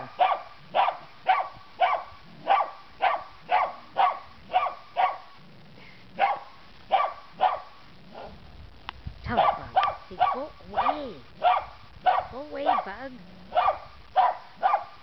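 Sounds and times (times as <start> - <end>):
dog barking: 0.0 - 5.4, 6.2 - 8.4, 9.3 - 12.9, 13.5 - 15.0.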